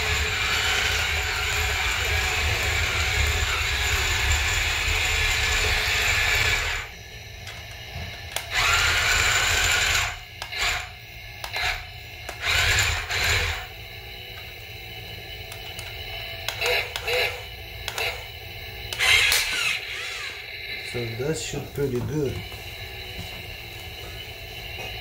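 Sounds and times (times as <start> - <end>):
toy tank motors and tracks whirring: 0.0 - 25.0.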